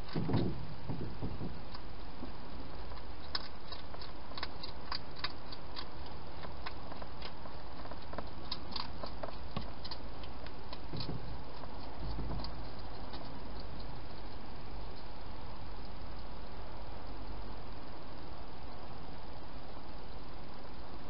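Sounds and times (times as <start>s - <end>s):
hedgehog chewing and crunching: 0.0s - 17.6s
steady hiss: 0.0s - 21.0s.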